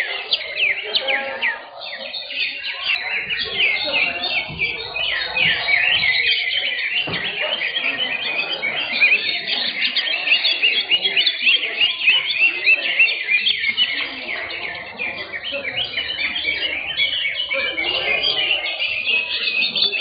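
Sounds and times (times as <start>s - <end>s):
birds chirping and whistling: 0.0s - 20.0s.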